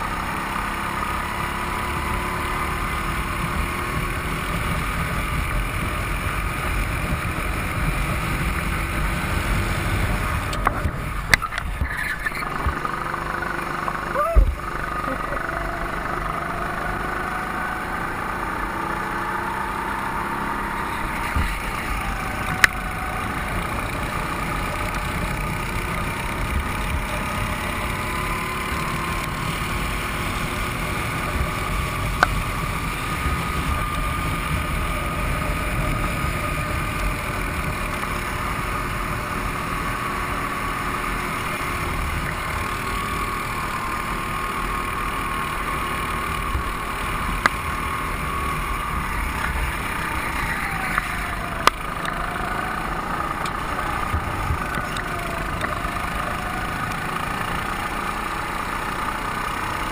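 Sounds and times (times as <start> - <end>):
go-kart engines droning: 0.0 - 59.9.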